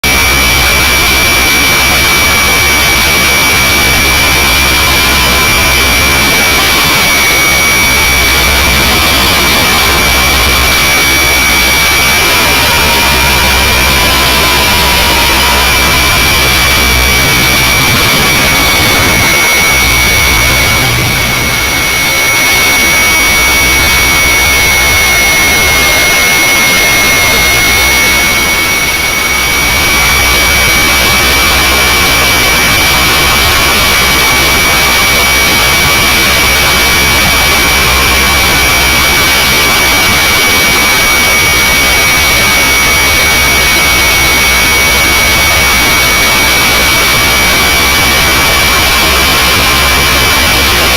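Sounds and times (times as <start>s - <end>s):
high-pitched motor whine: 0.0s - 50.9s
rotors and wind rushing: 0.0s - 50.9s.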